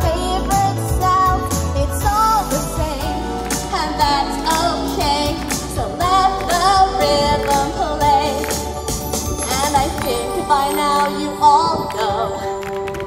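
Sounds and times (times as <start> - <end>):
backing track over speakers: 0.0 - 13.0
woman singing pop song: 0.0 - 13.0.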